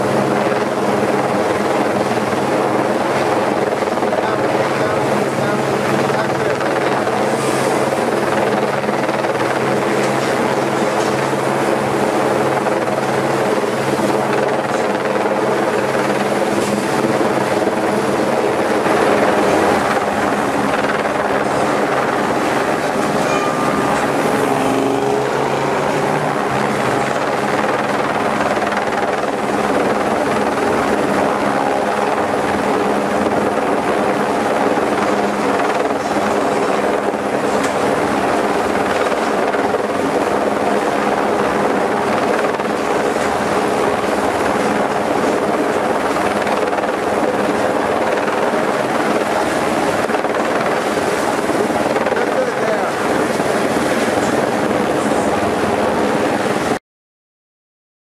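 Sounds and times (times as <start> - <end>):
helicopter hovering: 0.0 - 56.8.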